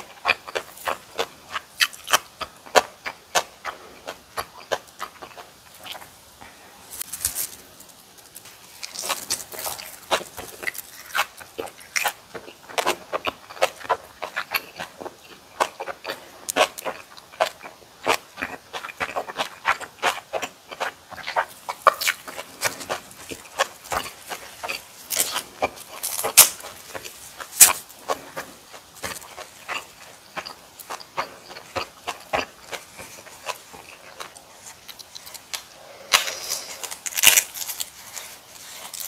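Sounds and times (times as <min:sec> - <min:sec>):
crisp chewing crunches: 0:00.0 - 0:06.2, 0:06.8 - 0:39.0.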